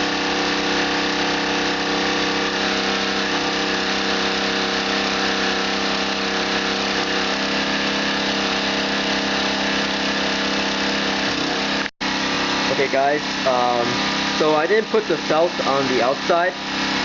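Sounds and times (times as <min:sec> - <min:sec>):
generator humming: 0:00.0 - 0:17.0.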